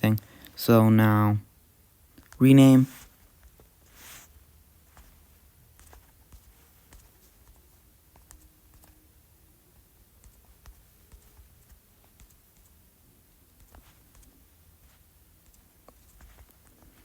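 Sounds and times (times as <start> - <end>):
fingers tapping phone screen: 2.1 - 9.1, 9.7 - 12.8, 13.5 - 17.0.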